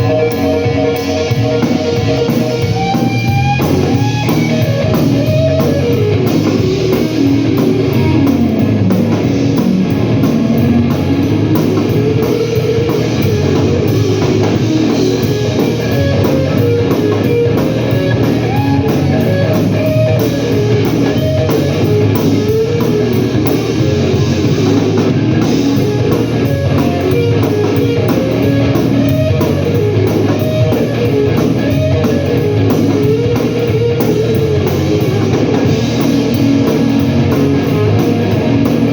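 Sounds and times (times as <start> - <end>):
drum kit: 0.0 - 38.9
lead guitar line: 0.0 - 38.9.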